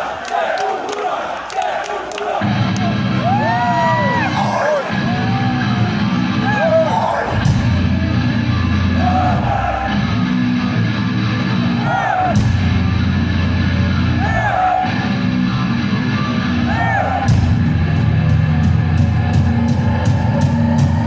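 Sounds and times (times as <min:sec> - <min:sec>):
heavy metal band playing live: 0:04.0 - 0:21.0.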